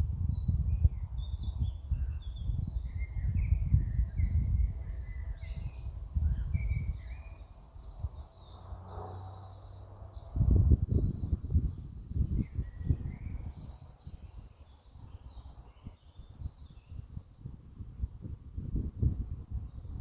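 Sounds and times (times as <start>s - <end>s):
low rumbling on microphone: 0.0s - 20.0s
small birds chirping: 0.1s - 17.3s.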